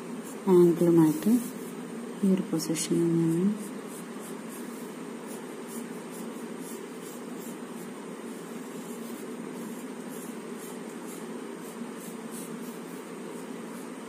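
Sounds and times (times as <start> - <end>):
low background hum: 0.0 - 14.0
pencil scratching on paper: 0.1 - 1.8, 3.1 - 14.0.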